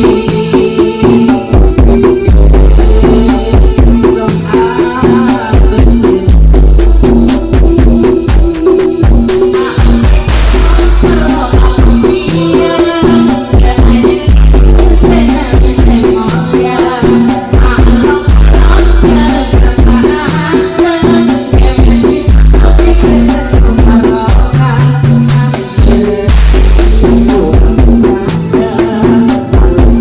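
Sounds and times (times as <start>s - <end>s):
deep bass notes: 0.0s - 20.5s, 21.6s - 30.0s
loud dance music: 0.0s - 30.0s.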